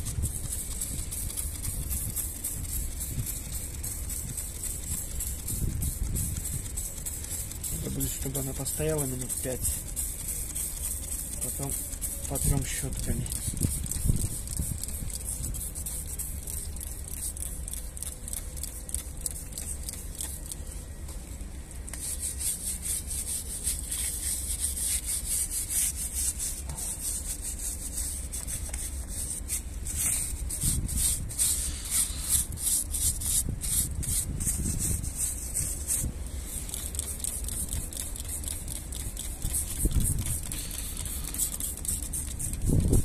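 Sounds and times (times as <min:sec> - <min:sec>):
stiff brush scrubbing metal: 0:00.0 - 0:20.6, 0:21.9 - 0:43.0.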